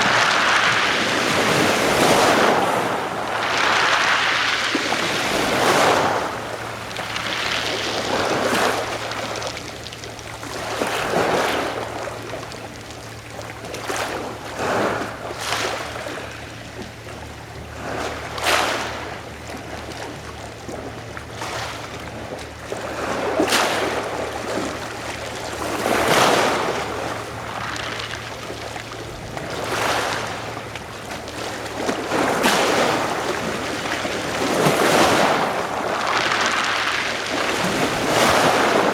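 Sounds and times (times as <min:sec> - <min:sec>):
waves washing against shore: 0:00.0 - 0:38.9.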